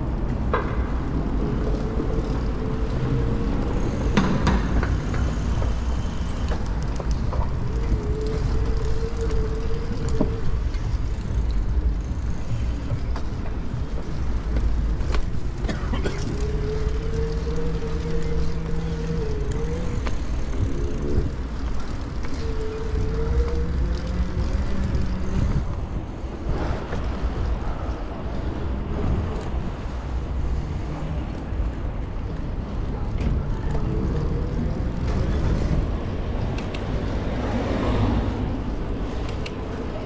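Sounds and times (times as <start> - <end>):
road noise from e-bike: 0.0 - 40.0
wind rumble on microphone: 0.0 - 40.0.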